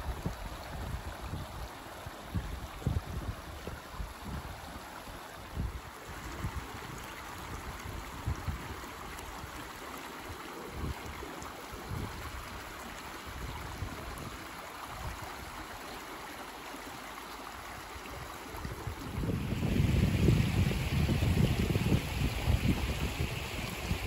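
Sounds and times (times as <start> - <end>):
wind buffeting microphone: 0.0 - 9.6, 10.6 - 15.5, 18.2 - 24.0
stream running over stones: 0.0 - 24.0.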